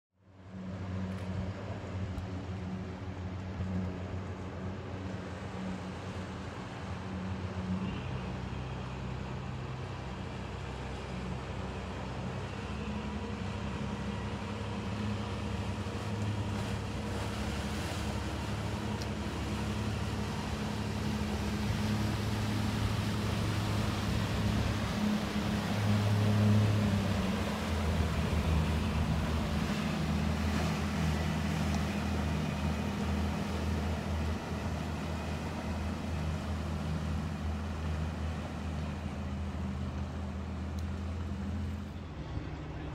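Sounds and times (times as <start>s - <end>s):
boat engines humming: 0.2s - 42.9s
fishing boat engine passing: 0.2s - 42.9s.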